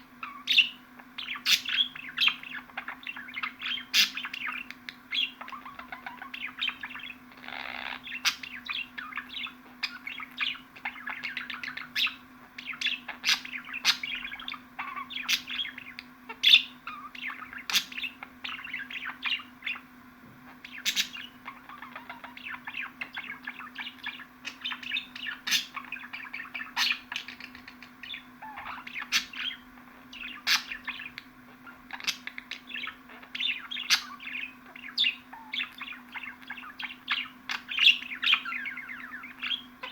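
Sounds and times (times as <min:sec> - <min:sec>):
budgerigar warbling and twittering: 0:00.2 - 0:19.9, 0:20.5 - 0:39.9.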